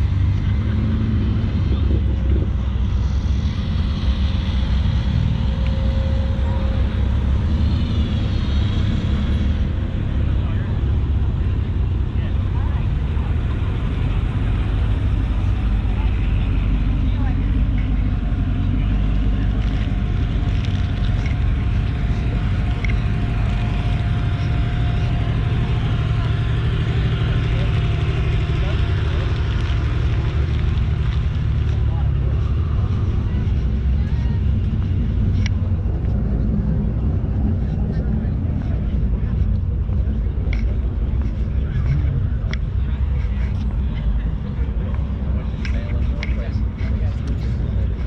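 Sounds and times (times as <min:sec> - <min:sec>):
vehicle engine rumble: 0:00.0 - 0:48.0.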